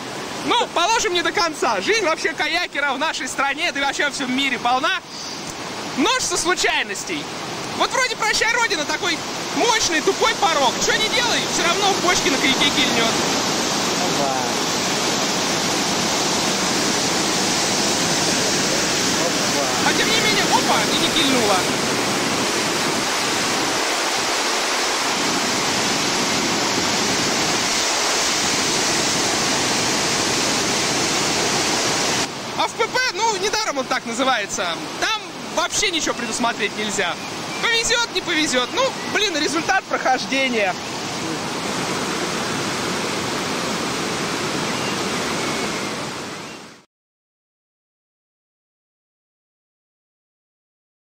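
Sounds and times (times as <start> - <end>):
whitewater rushing: 0.0 - 46.7.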